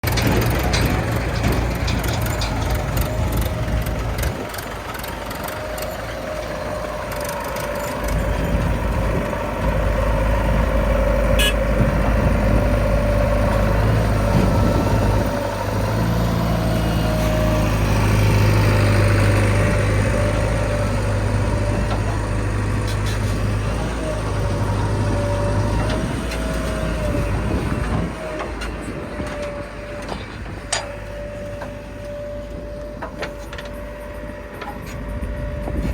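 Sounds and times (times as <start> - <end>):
heavy diesel machinery engines: 0.0 - 35.9.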